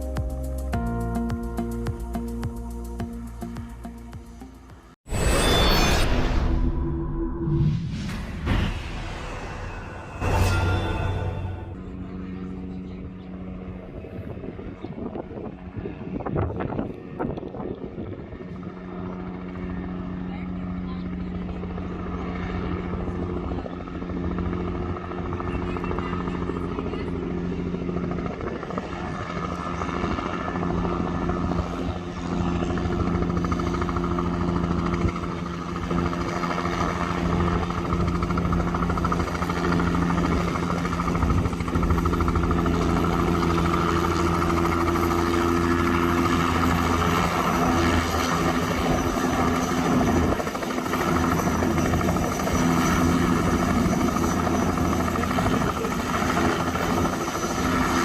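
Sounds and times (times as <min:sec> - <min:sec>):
helicopter turbine and rotor drone: 0:00.0 - 0:58.0.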